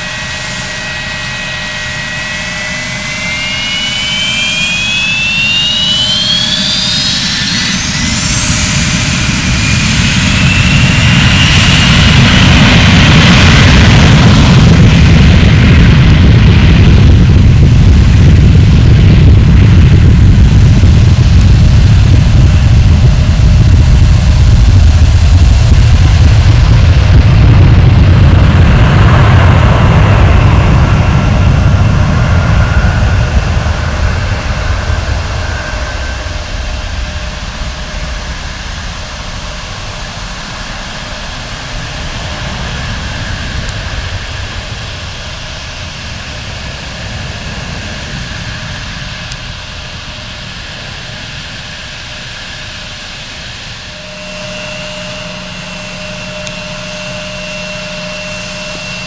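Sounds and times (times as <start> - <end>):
high whine of jet turbofans: 0.0 - 59.0
jet engines roaring at takeoff: 0.0 - 59.0.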